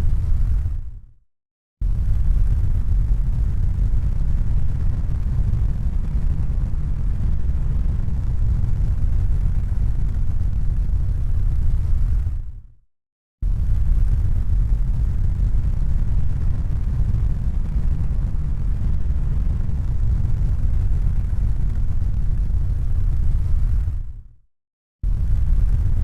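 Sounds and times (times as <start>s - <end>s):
low rumbling noise: 1.8s - 12.4s, 13.4s - 24.2s, 25.0s - 26.0s.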